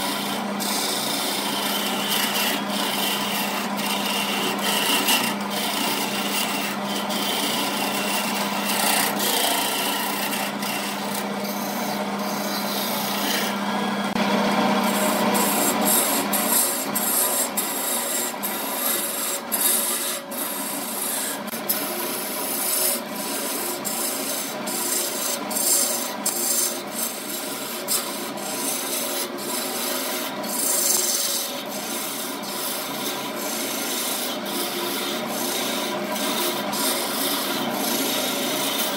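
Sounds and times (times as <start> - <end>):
chisel scraping spinning wood: 0.0 - 38.9.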